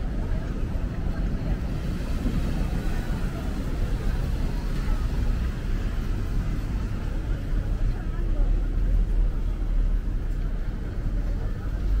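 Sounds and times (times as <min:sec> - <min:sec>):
traffic on wet road: 0:00.0 - 0:12.0.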